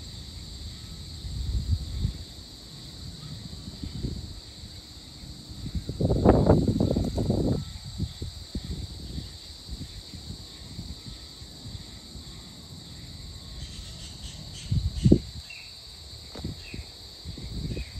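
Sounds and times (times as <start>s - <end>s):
crickets trilling: 0.0s - 17.9s.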